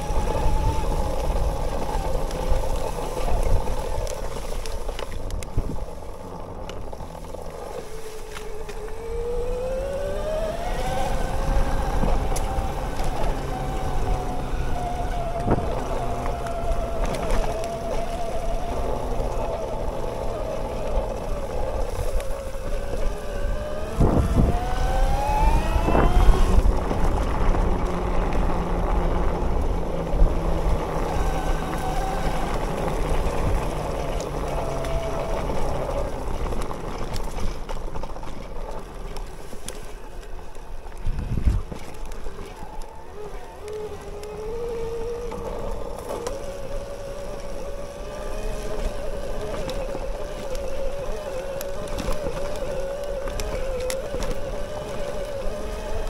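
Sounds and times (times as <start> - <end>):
electric bike motor whining: 0.0 - 56.0
wind rumble on microphone: 0.0 - 56.0.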